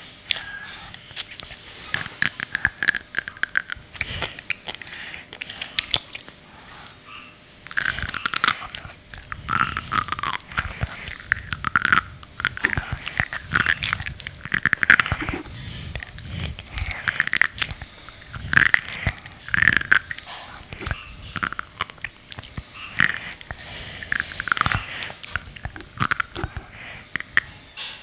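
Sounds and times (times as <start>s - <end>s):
chewing with clicks and pops: 0.2s - 27.9s.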